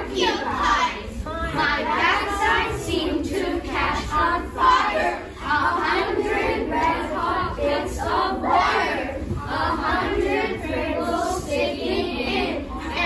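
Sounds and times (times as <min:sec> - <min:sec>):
children chanting in unison: 0:00.0 - 0:13.0.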